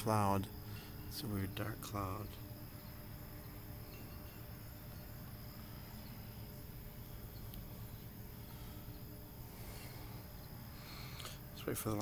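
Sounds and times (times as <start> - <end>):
crickets and insects trilling: 0.0 - 12.0
low steady hum: 0.0 - 12.0.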